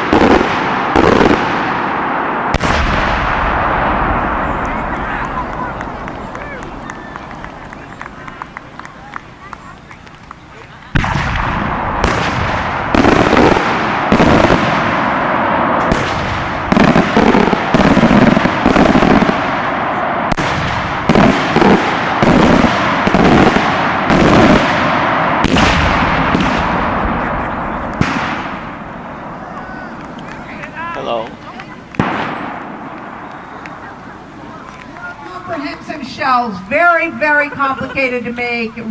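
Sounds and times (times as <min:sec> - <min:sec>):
firework shells booming: 0:00.0 - 0:09.2, 0:10.9 - 0:30.8, 0:31.9 - 0:34.1
firework crackle: 0:00.0 - 0:36.8.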